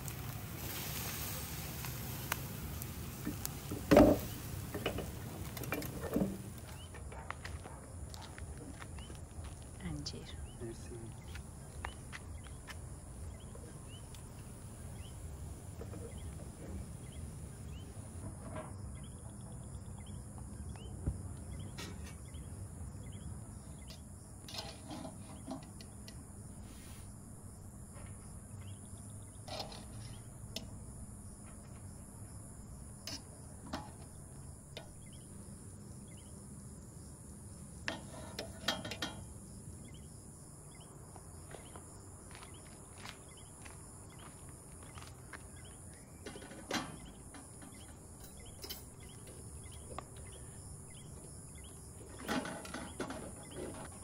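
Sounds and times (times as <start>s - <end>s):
high insect drone: 8.7s - 54.0s.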